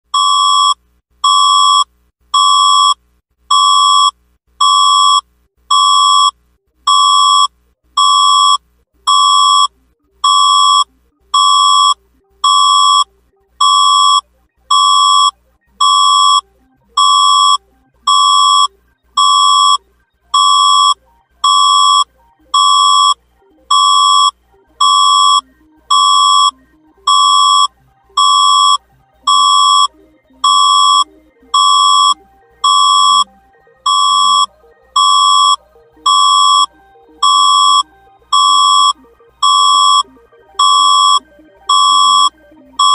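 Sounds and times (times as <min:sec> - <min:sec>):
high buzzy alarm beeps: 0:08.1 - 0:42.9.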